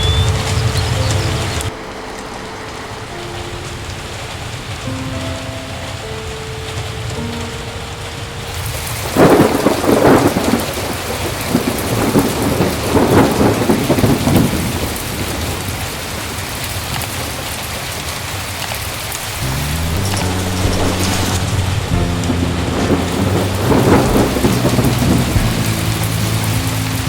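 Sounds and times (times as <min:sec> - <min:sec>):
thunder rolling: 0:00.0 - 0:16.7, 0:19.0 - 0:27.0
heavy rain falling: 0:00.0 - 0:27.0.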